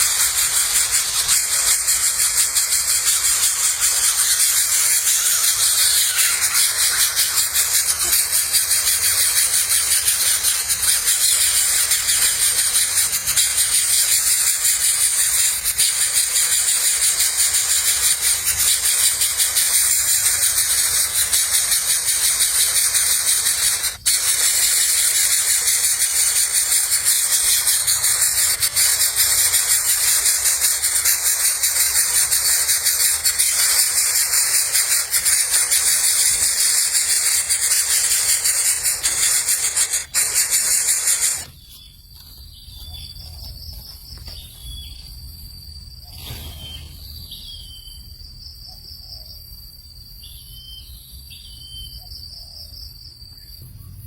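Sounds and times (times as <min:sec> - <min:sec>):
insect chorus buzzing: 0:00.0 - 0:54.0.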